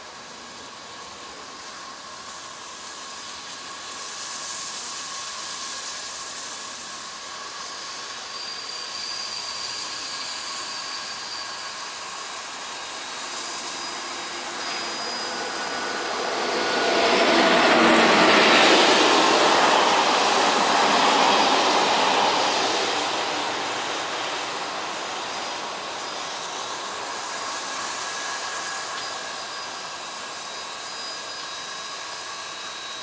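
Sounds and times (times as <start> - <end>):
steam locomotive hissing rush: 0.0 - 33.0.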